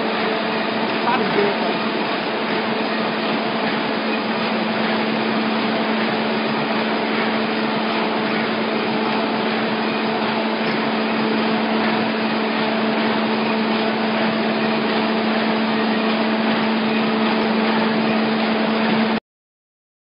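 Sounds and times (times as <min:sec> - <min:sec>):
machines mechanical din: 0:00.0 - 0:19.2.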